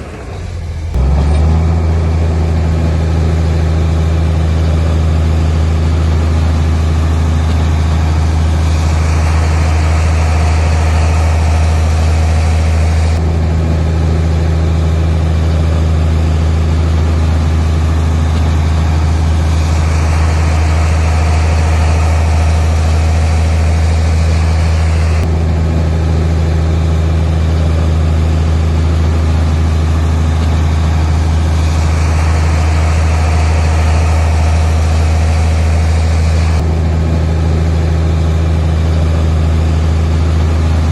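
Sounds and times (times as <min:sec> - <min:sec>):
harsh high working noise: 0:00.0 - 0:40.9
heavy diesel engine running: 0:00.0 - 0:40.9.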